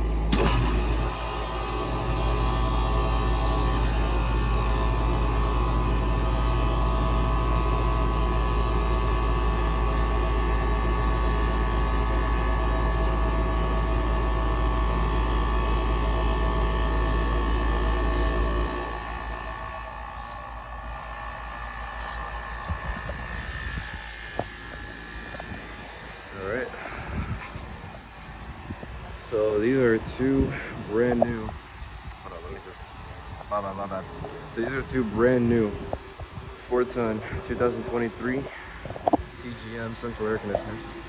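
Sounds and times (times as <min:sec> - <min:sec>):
air conditioner unit humming: 0:00.0 - 0:41.0
fan noise: 0:00.0 - 0:41.0.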